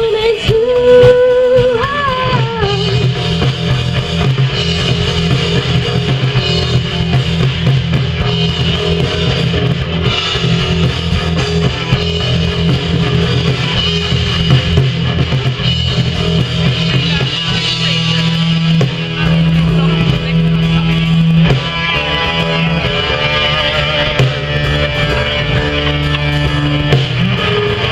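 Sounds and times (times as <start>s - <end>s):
bass guitar: 0.0s - 27.9s
drums: 0.0s - 27.9s.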